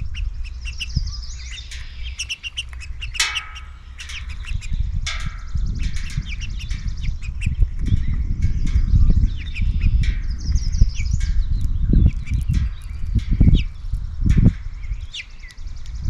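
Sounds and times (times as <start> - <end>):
low rumble: 0.0 - 16.0
small songbirds chirping: 0.0 - 16.0.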